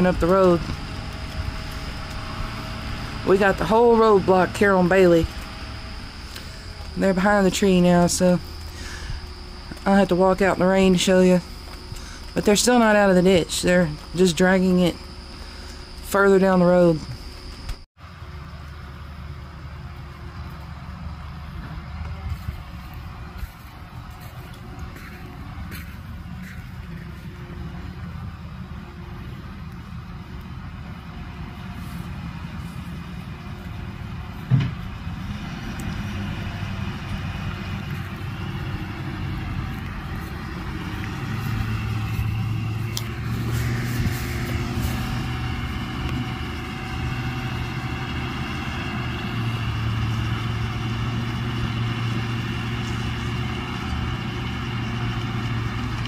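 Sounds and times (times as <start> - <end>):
heavy engines under load: 0.0 - 56.0.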